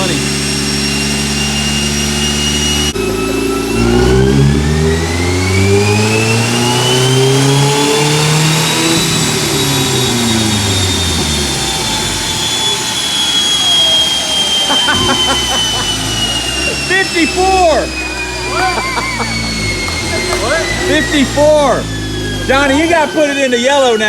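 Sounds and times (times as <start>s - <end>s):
car engine revving: 0.0s - 24.0s
high whine: 0.0s - 24.0s.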